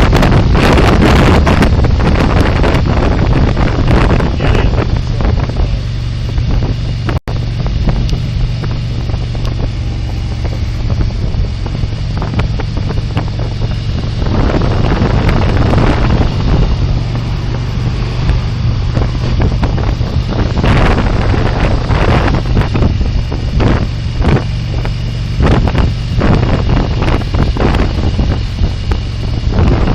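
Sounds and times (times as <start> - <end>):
motorcycle engine running: 0.0 - 29.9
wind buffeting microphone: 0.0 - 29.9.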